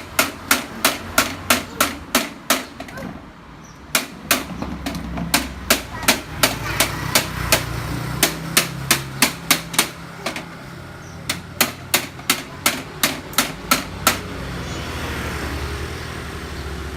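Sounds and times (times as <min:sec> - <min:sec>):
sharp knocks: 0:00.0 - 0:03.2, 0:03.9 - 0:14.4.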